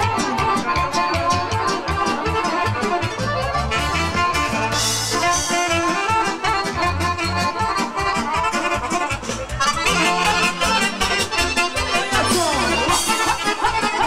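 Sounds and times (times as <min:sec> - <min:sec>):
folk band with accordion: 0:00.0 - 0:14.0
pulsing bass beat: 0:00.0 - 0:14.0.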